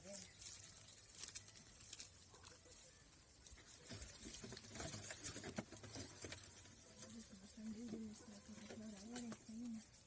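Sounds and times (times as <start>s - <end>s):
grain pattering down: 0.0s - 10.0s.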